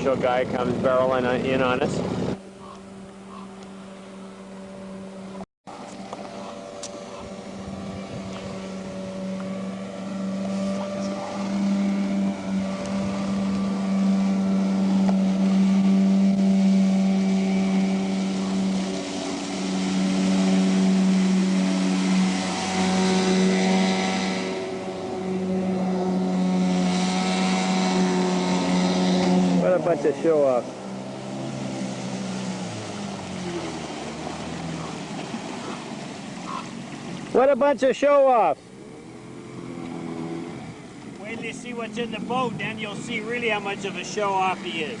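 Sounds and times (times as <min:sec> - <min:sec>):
motorboat engine running: 0:00.0 - 0:45.0.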